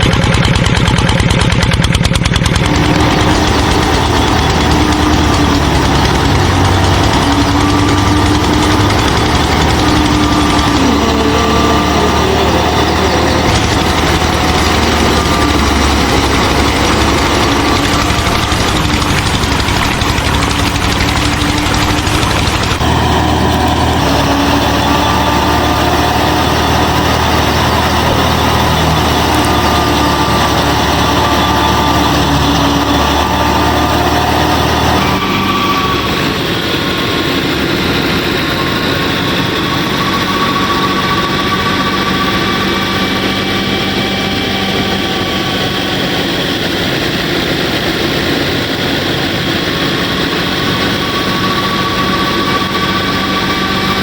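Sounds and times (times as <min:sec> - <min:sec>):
small motor droning: 0:00.0 - 0:54.0.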